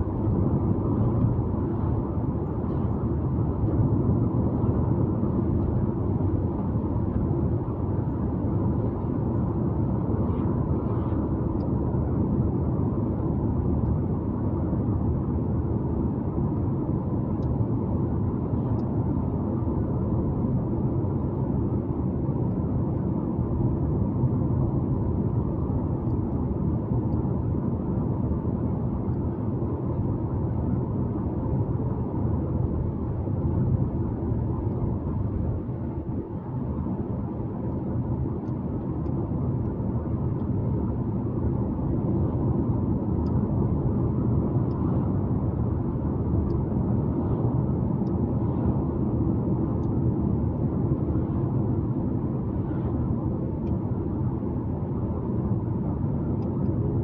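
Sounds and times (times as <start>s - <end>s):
car driving low rumble: 0.0s - 57.0s.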